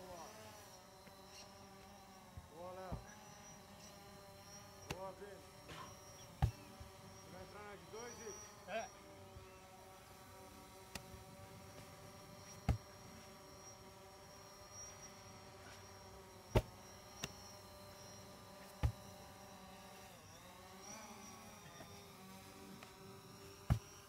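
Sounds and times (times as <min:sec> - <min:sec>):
buzzing hum: 0:00.0 - 0:24.0.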